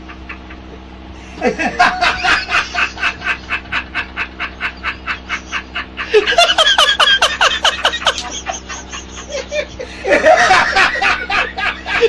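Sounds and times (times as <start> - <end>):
rapid rhythmic laughter: 0.0 - 12.0.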